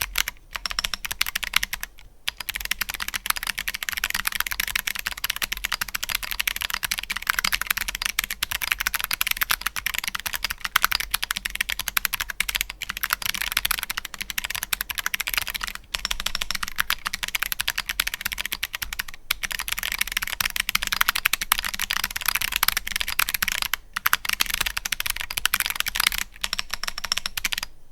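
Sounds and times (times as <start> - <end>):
mechanical keyboard typing: 0.0 - 27.7.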